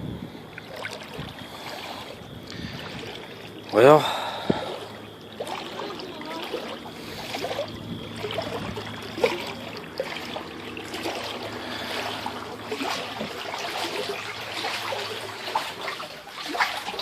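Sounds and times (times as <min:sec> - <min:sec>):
person wading through water: 0:00.0 - 0:17.0.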